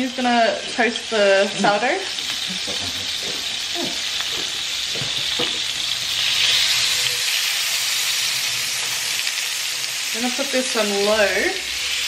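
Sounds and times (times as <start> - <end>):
butter sizzling in a frying pan: 0.0 - 12.0.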